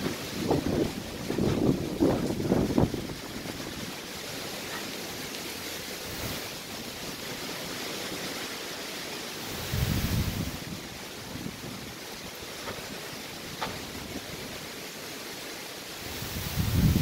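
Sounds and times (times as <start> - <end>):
wind buffeting microphone: 0.0 - 8.3, 9.4 - 14.8, 16.0 - 17.0
rain hissing: 0.0 - 17.0
wind: 0.0 - 17.0.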